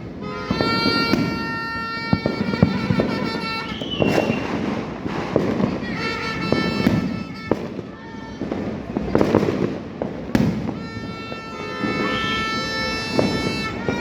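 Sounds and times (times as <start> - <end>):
firework bangs: 0.0 - 14.0
fireworks crackling: 0.0 - 14.0.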